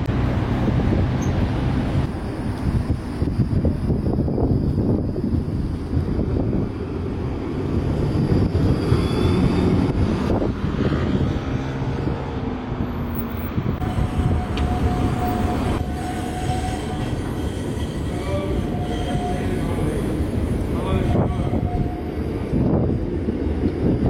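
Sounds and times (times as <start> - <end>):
tram wheels rumbling: 0.0 - 24.0.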